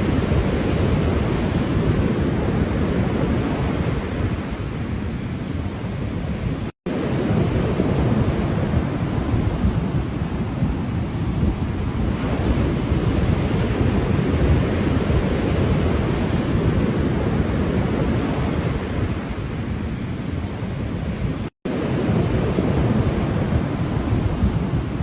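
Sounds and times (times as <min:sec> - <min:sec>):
ocean surf washing in: 0:00.0 - 0:25.0
wind on microphone: 0:00.0 - 0:25.0.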